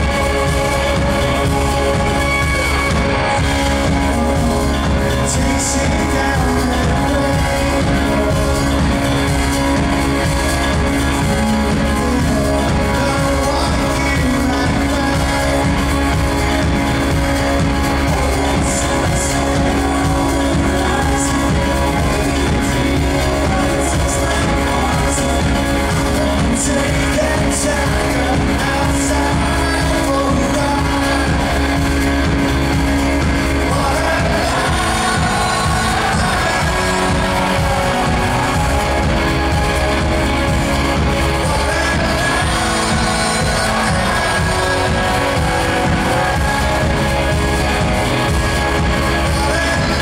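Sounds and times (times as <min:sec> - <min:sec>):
man singing lead vocal: 0:00.0 - 0:50.0
rock band playing live: 0:00.0 - 0:50.0.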